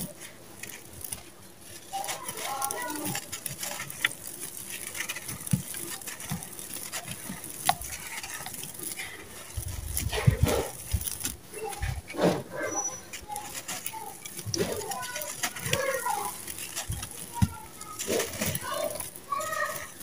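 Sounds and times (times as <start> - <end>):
grit pattering onto sand: 0.0 - 20.0
hands crushing dry cement lumps: 0.0 - 20.0.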